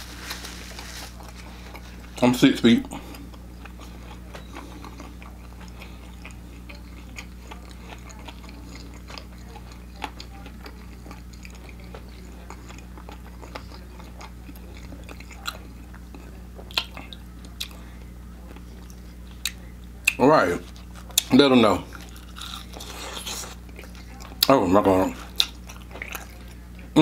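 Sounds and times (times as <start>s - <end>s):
low electrical hum: 0.0s - 27.0s
mouth chewing sounds: 2.9s - 17.9s, 18.5s - 27.0s.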